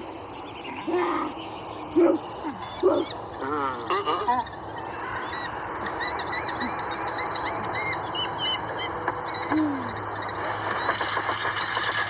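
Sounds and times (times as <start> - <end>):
low falling bird call: 0.0 - 11.1
birds chirping: 0.0 - 12.0
crackling noise: 0.0 - 12.0.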